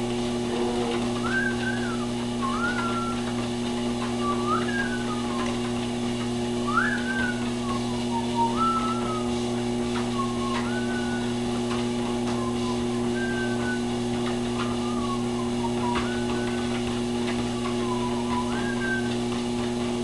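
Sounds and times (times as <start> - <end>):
treadmill motor humming: 0.0 - 20.0.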